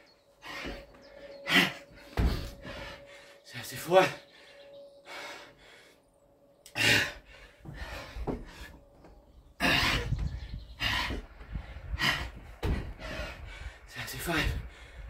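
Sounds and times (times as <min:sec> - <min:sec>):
man breathing hard: 0:00.3 - 0:15.0.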